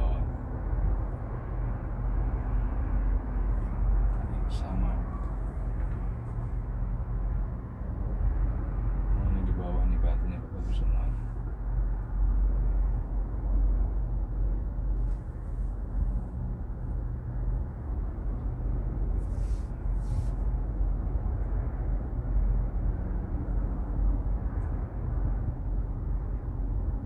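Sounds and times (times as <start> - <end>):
cable car cabin rumble: 0.0 - 27.0.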